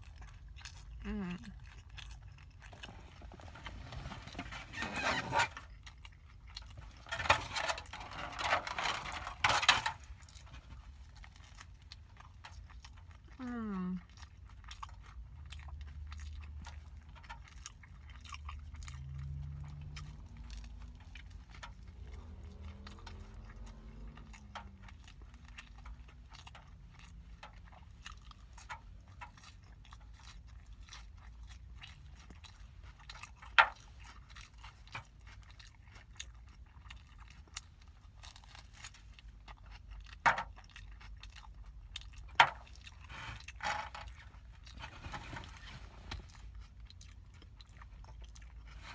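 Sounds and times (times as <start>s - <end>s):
chewing and biting burger: 0.0s - 48.9s.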